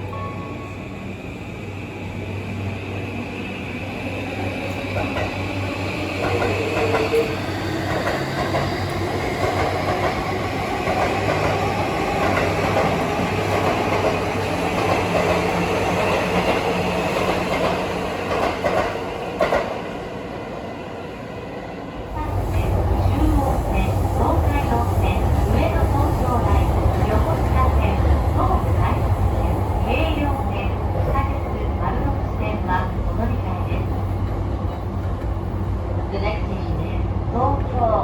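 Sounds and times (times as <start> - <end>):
train rumbling on rails: 0.0 - 38.0.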